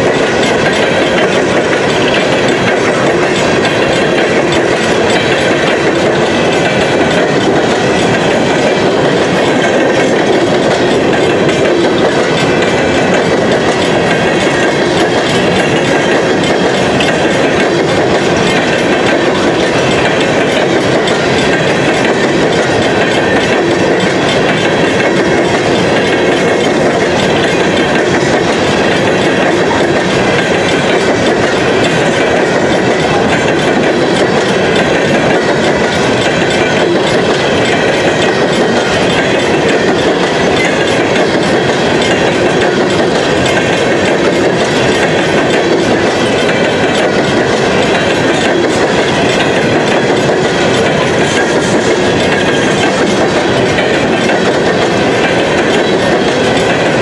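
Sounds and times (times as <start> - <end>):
train wheels clacking over rails: 0.0 - 57.0.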